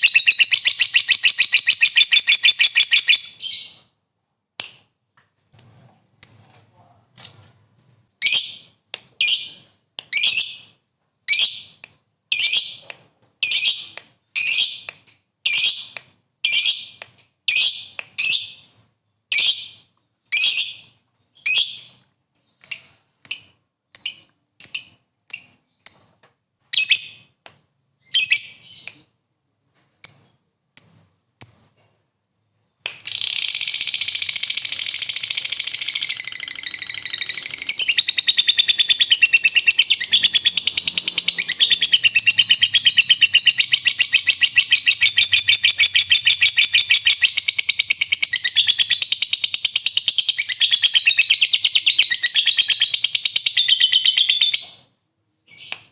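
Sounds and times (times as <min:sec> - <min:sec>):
lovebird chirping and trilling: 0:00.0 - 0:03.9, 0:05.4 - 0:12.8, 0:13.4 - 0:26.2, 0:28.0 - 0:29.1, 0:33.0 - 0:54.9, 0:55.5 - 0:55.8.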